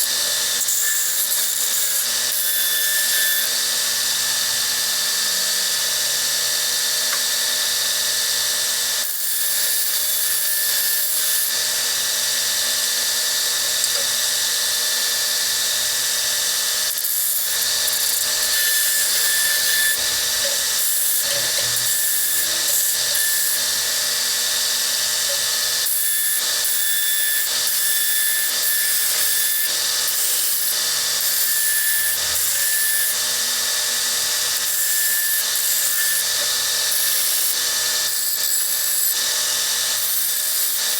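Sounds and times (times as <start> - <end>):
electric drill boring into metal: 0.0 - 40.9.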